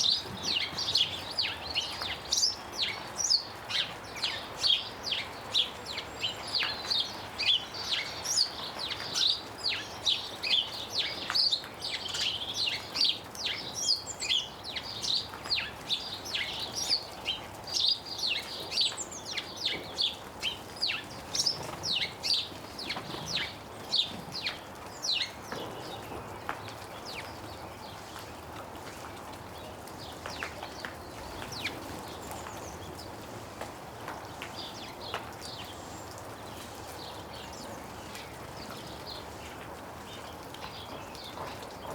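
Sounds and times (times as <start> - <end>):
small birds chirping: 0.0 - 33.3, 34.0 - 41.9.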